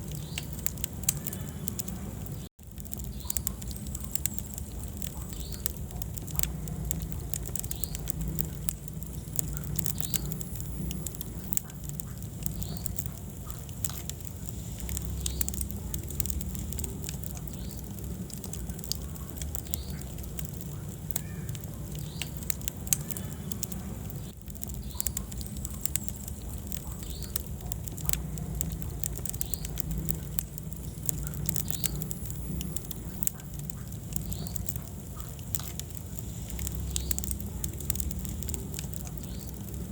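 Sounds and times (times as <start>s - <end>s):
faint fire whistles: 0.0s - 39.9s
fire low rumble: 0.0s - 39.9s
wood fire crackling and popping: 0.0s - 39.9s.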